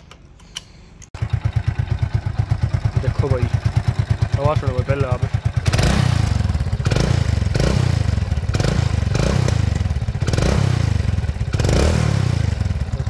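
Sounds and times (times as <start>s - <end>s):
motorcycle engine revving: 1.2s - 13.0s.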